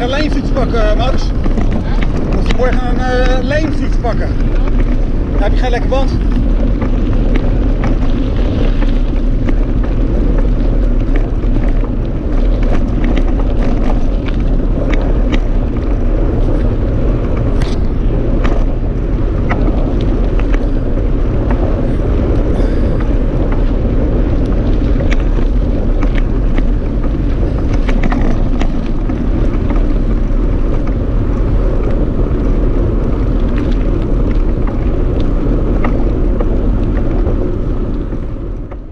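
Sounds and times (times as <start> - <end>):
bike rattling and clicking: 0.0 - 38.9
wind rushing over microphone: 0.0 - 38.9.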